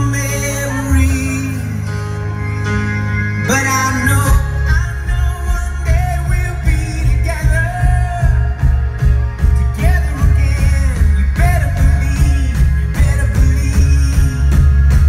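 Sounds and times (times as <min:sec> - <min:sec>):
man singing into microphone: 0:00.0 - 0:02.4, 0:03.4 - 0:15.0
live rock band: 0:00.0 - 0:15.0.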